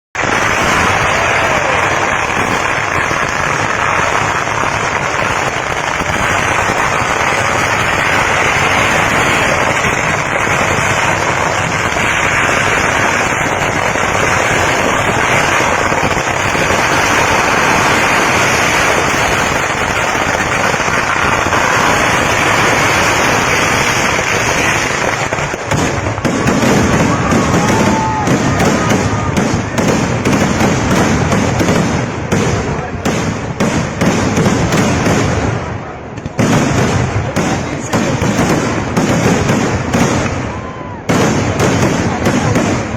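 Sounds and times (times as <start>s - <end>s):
deep firework bangs: 0.2s - 42.9s
firecrackers crackling: 0.2s - 42.9s.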